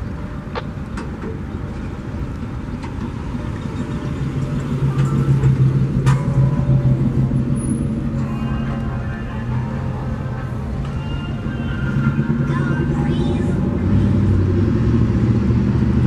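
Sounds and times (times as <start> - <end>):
freight train cars rumbling: 0.0 - 16.0.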